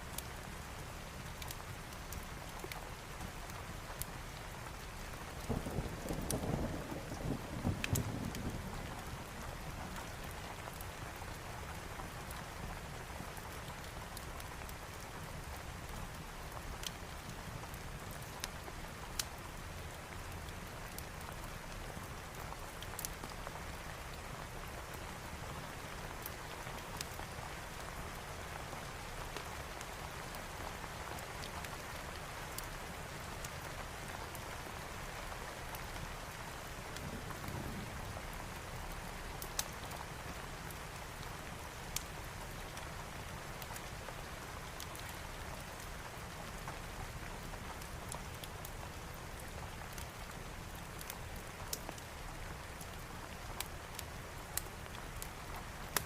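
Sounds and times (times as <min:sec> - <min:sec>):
wood fire crackling: 0:00.0 - 0:06.4, 0:07.8 - 0:56.0
steady rain falling: 0:00.0 - 0:56.0.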